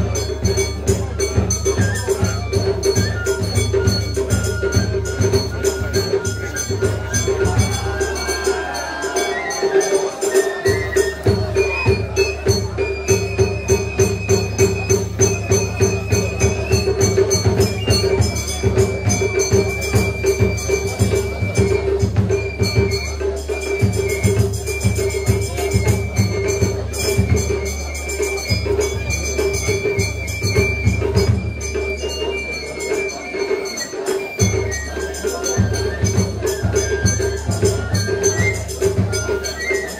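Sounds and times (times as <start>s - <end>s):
jingling metallic percussion: 0.0s - 39.9s.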